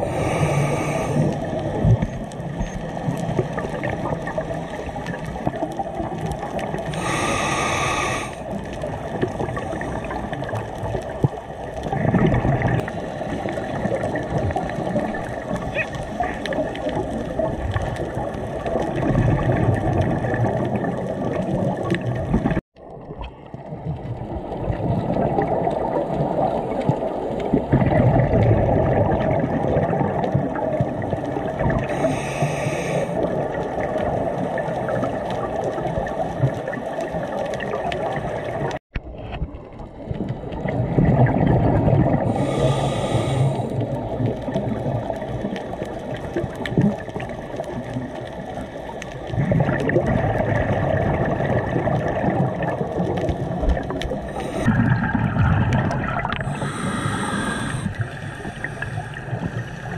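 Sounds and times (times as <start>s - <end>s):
gurgle of exhaled bubbles: 0.0s - 59.9s
underwater noise: 0.0s - 59.9s.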